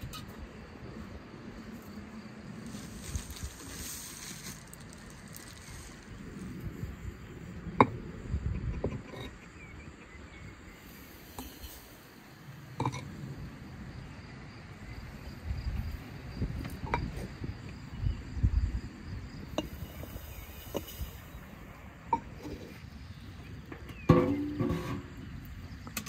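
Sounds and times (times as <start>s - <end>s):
faint insect chirping: 0.0s - 26.0s.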